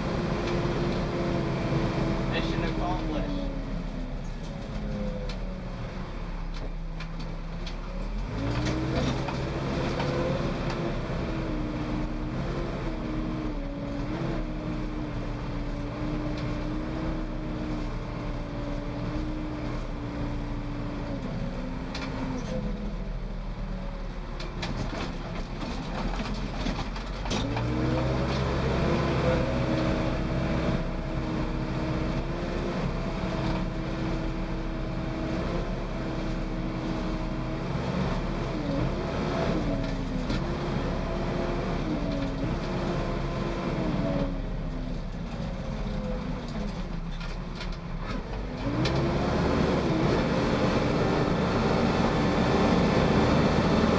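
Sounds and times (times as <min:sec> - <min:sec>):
diesel engine revving: 0:00.0 - 0:53.9.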